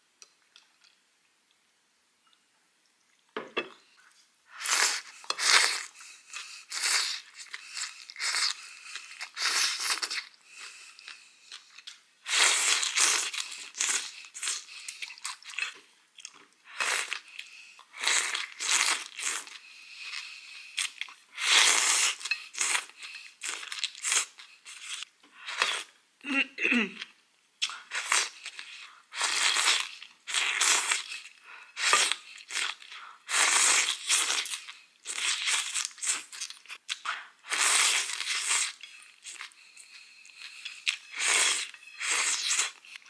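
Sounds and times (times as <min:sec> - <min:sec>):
slurping noodles: 0:04.5 - 0:15.8, 0:16.7 - 0:25.9, 0:27.6 - 0:36.4, 0:37.0 - 0:43.0
crunchy chewing of vegetables: 0:04.5 - 0:25.9, 0:27.6 - 0:43.0.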